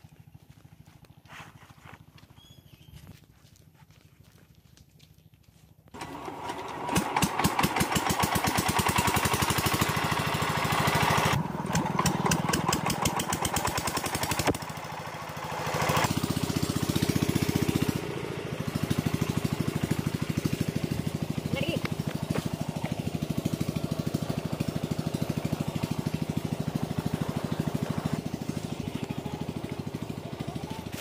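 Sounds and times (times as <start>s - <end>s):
diesel engine pulsing: 6.0s - 31.0s.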